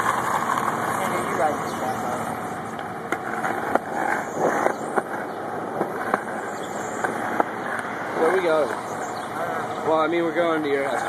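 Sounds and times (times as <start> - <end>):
street vehicle noise: 0.0 - 11.0.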